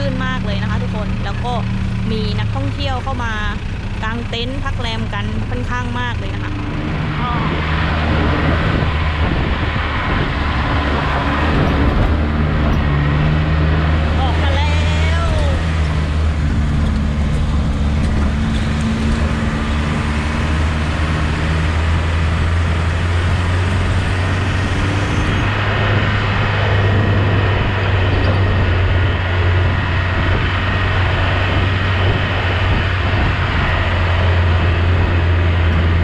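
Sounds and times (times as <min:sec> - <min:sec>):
road and wind noise: 0:00.0 - 0:36.0
vehicle engine drone: 0:00.0 - 0:36.0.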